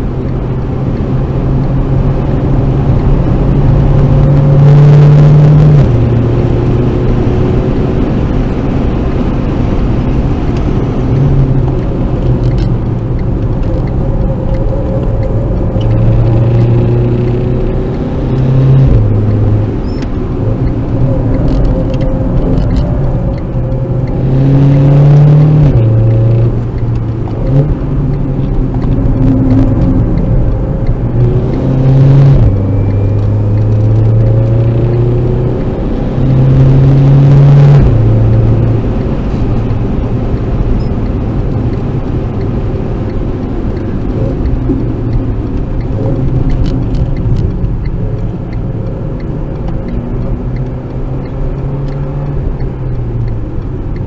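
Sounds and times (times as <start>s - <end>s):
car engine under load: 0.0s - 54.0s.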